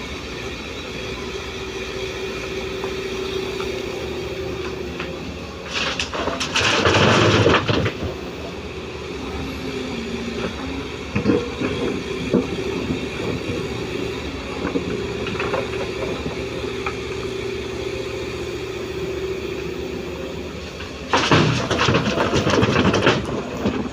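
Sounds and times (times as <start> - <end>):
excavator engine and hydraulics whine: 0.0 - 23.9.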